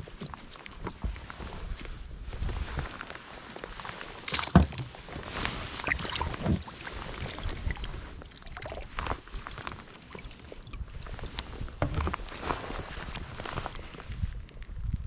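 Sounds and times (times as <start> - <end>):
water splashing around boat: 0.0 - 12.9.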